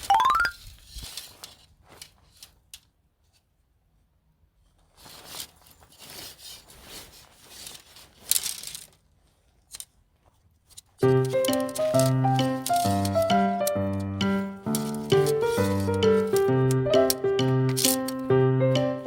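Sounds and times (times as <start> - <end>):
rustling and scraping: 0.6 - 18.3.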